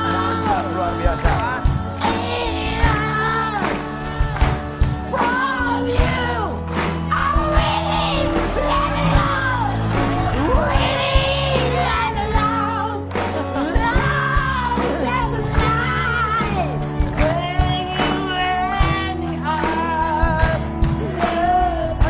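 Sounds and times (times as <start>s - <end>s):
rock bass and drums: 0.0s - 22.0s.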